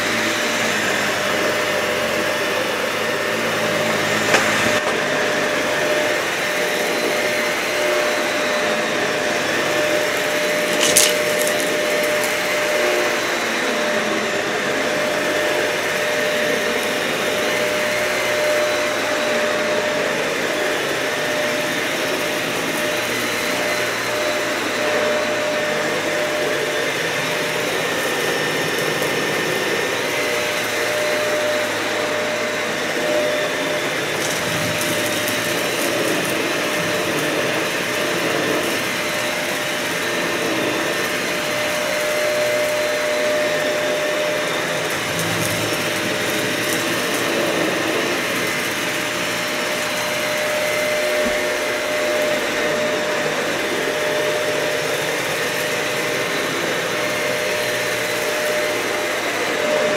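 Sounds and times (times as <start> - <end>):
vacuum cleaner running on carpet: 0.0 - 59.9.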